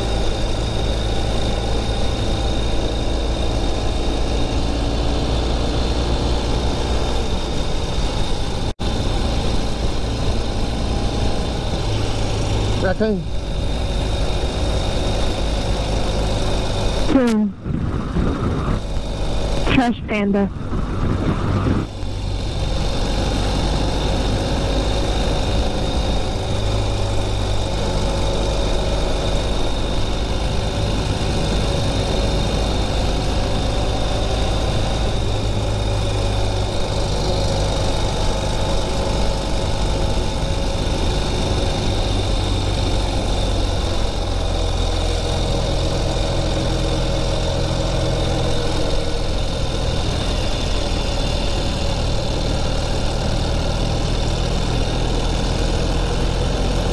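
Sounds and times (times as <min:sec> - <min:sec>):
motorcycle engine running: 0:00.0 - 0:56.9
wind and road noise: 0:00.0 - 0:56.9.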